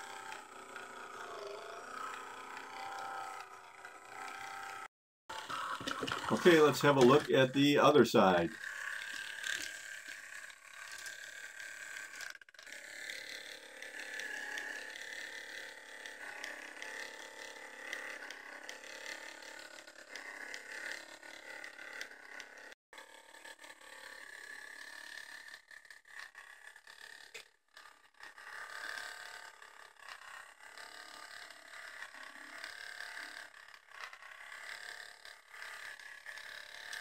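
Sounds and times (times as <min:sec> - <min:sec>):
toy motor whirring with gear chatter: 0:00.0 - 0:37.0.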